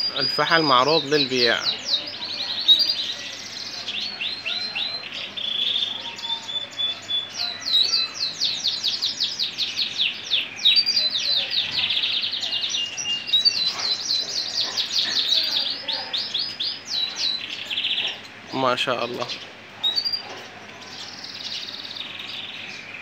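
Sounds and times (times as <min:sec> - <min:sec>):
canary singing trills: 0:00.0 - 0:23.0.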